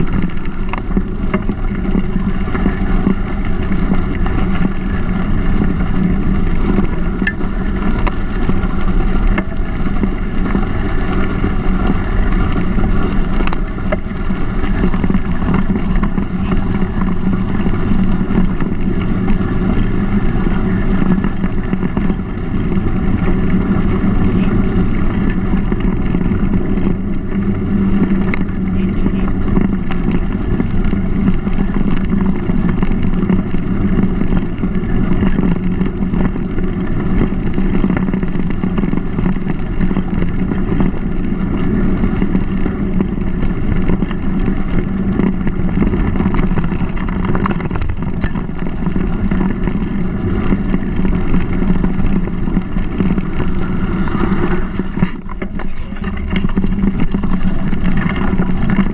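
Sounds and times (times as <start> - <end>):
tyre rumble: 0.0 - 58.9
wind buffeting: 0.0 - 58.9.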